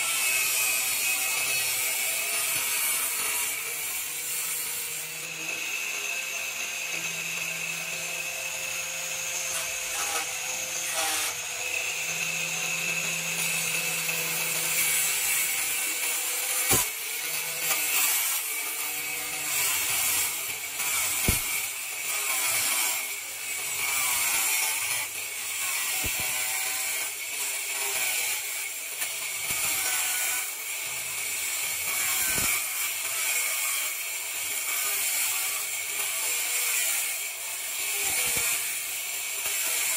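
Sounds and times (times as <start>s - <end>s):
angle grinder cutting metal: 0.0s - 39.9s.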